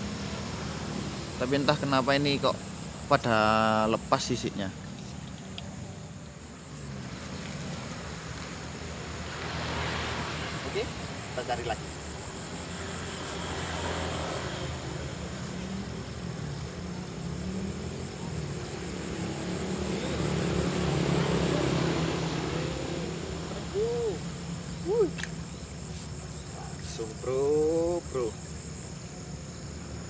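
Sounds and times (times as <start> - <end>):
motor vehicle engine passing: 0.0 - 26.1.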